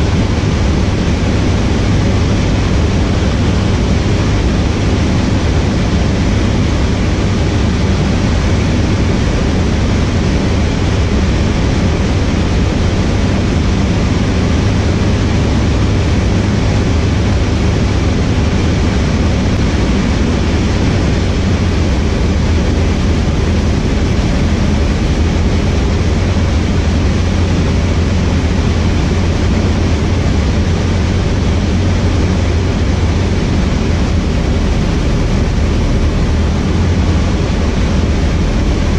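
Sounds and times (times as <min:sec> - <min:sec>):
airflow noise: 0:00.0 - 0:38.9
propeller plane engine drone: 0:00.0 - 0:38.9.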